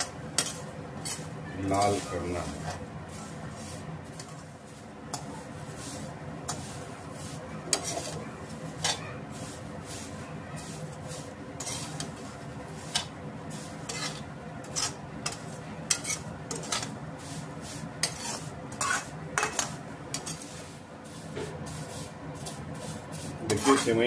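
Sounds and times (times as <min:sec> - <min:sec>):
spoon scraping metal pan: 0:00.0 - 0:24.0.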